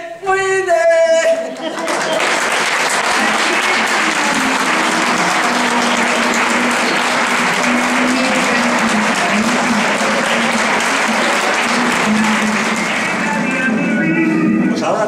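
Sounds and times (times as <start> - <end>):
audience applauding: 1.4 - 14.2.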